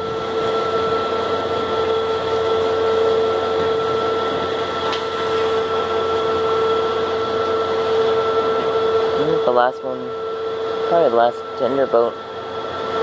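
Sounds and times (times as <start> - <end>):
machinery hum with whine: 0.0 - 13.0.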